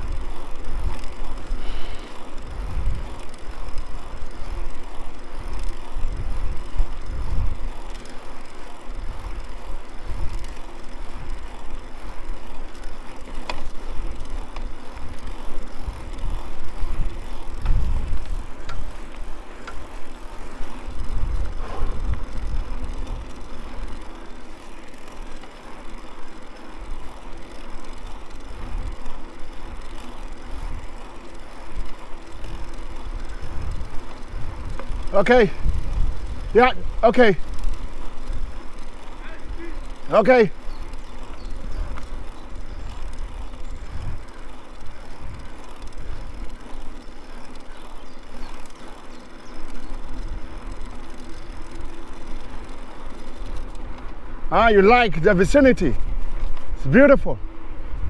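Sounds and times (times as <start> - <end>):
mountain bike tyre and frame noise: 0.0 - 58.0.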